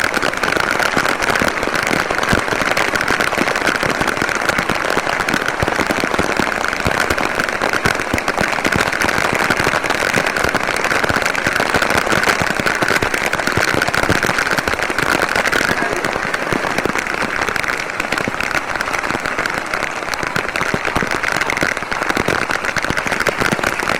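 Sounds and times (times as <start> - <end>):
heavy rain on hard surfaces: 0.0 - 23.9.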